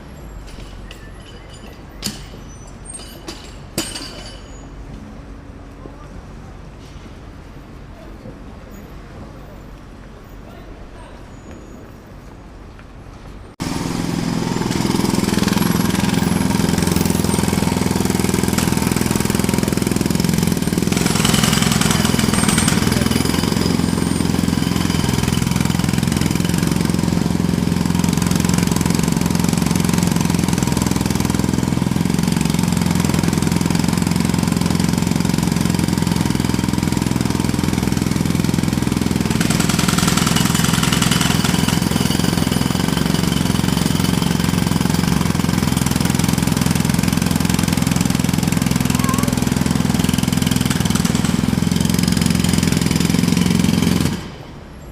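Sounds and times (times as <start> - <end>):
jackhammer hammering: 0.5 - 4.6, 13.6 - 54.6.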